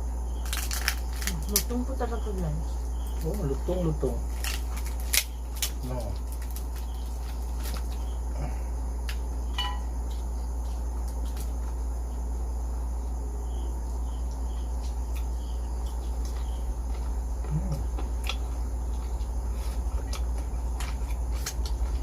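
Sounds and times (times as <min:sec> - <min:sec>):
crickets chirping: 0:00.0 - 0:22.0
crunchy chewing: 0:00.0 - 0:22.0
steady low hum: 0:00.0 - 0:22.0.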